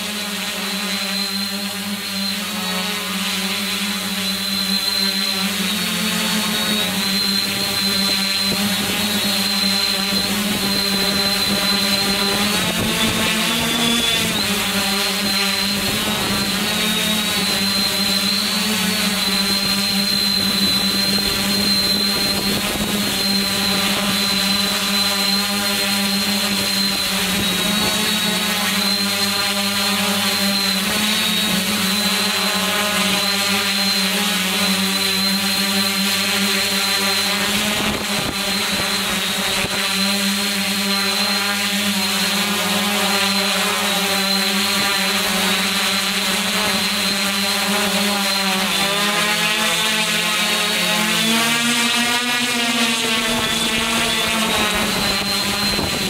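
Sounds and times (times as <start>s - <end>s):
drone motors humming and whining: 0.0s - 56.0s.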